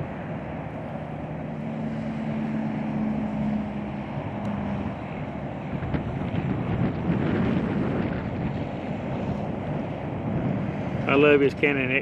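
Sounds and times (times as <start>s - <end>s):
passing vehicle hum: 0.0s - 12.0s
traffic rushing: 0.0s - 12.0s
wind buffeting microphone: 0.0s - 12.0s.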